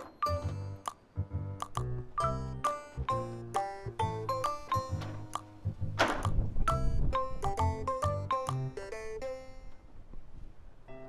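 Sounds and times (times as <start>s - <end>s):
bouncy tune with bass line: 0.0s - 9.5s.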